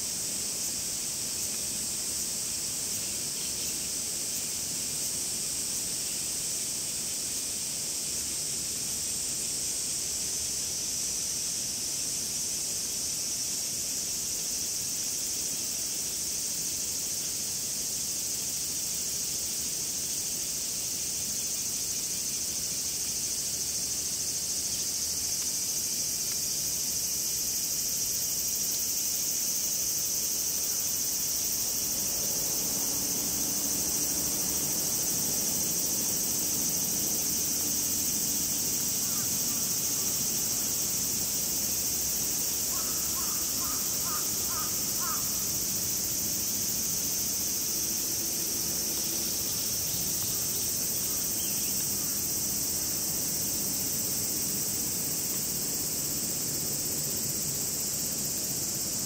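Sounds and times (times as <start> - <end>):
cicadas droning: 0.0 - 59.0.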